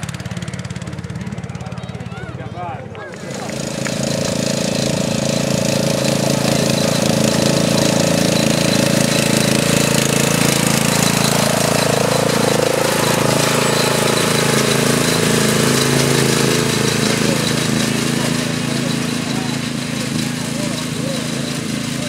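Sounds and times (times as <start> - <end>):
ride-on lawn mower engine: 0.0 - 22.0.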